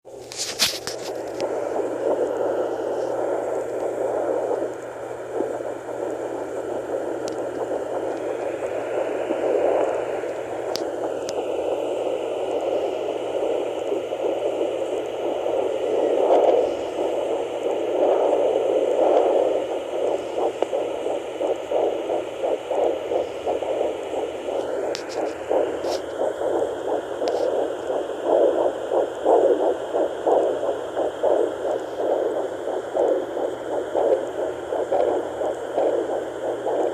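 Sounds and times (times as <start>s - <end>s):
fast fetal heartbeat pulsing: 0.1s - 36.9s.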